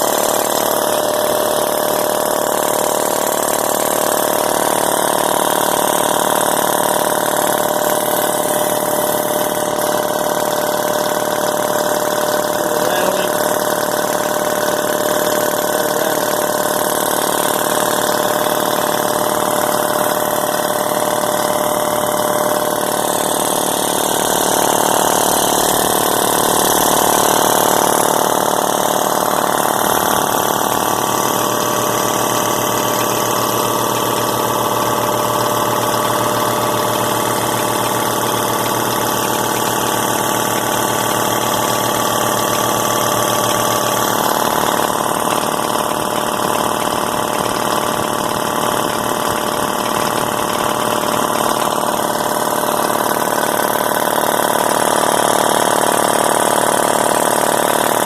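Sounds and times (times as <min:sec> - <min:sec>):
air compressor running: 0:00.0 - 0:58.0.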